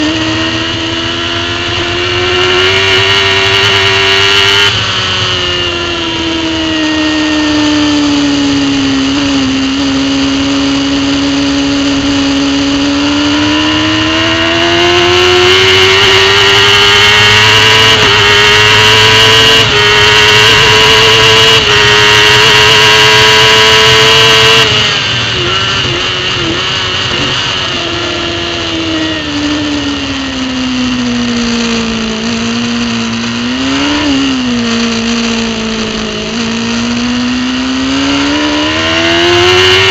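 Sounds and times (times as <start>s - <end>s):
superbike engine revving: 0.0s - 39.9s.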